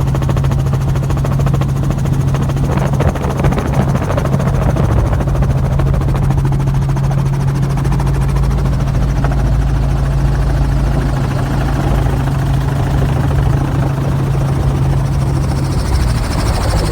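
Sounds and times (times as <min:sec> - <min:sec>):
helicopter rotor and engine drone: 0:00.0 - 0:16.9.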